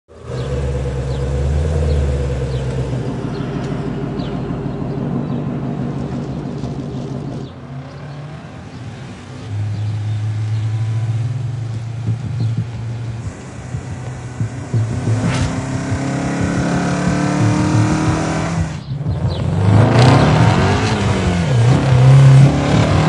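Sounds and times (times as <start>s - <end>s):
car engine running: 0.1s - 23.0s.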